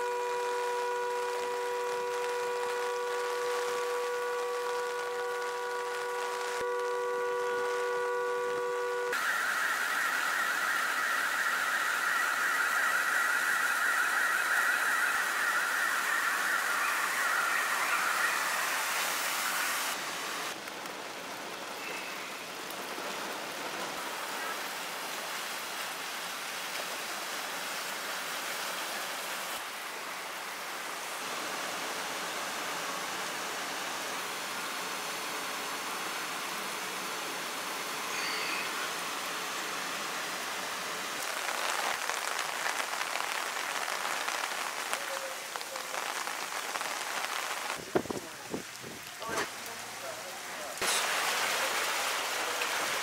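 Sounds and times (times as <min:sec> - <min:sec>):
heavy rain and rushing floodwater: 0:00.0 - 0:07.9, 0:08.5 - 0:53.0.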